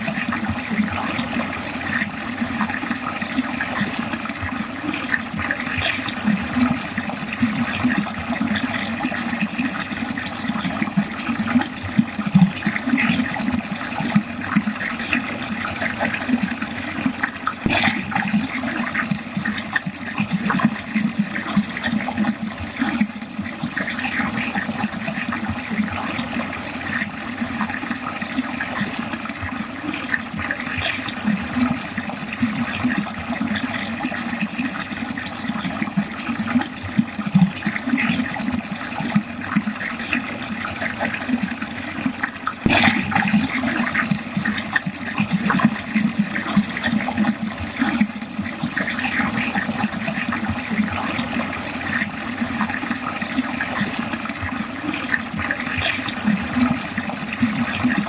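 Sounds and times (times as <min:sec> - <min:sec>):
water running down drain: 0:00.0 - 0:58.0.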